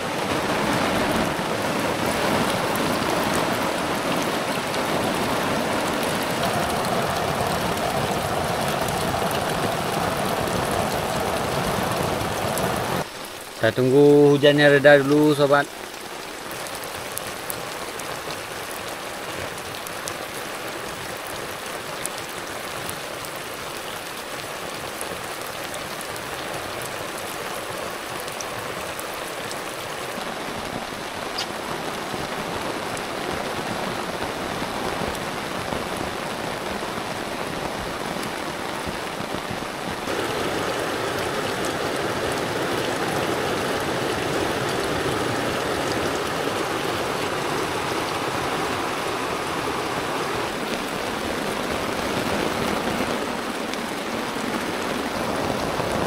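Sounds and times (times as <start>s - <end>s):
heavy rain falling: 0.0s - 56.0s
raindrop patter: 0.0s - 56.0s.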